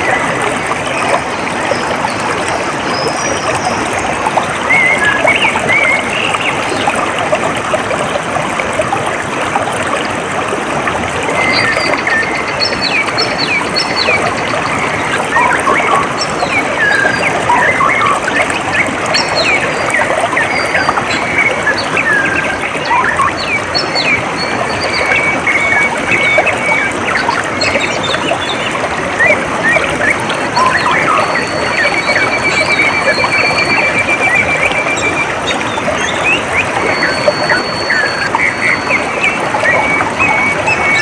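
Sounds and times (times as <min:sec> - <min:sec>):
water trickling: 0:00.0 - 0:41.0.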